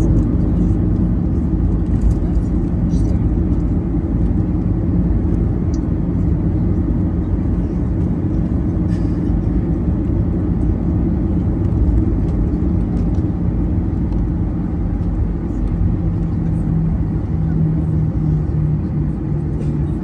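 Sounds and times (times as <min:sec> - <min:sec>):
aircraft engines at low power: 0:00.0 - 0:20.0
wheels rolling on taxiway: 0:00.0 - 0:20.0.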